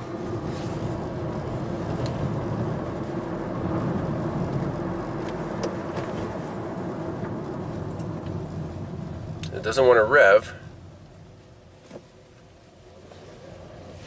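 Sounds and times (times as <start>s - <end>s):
car engine hum: 0.0s - 14.0s.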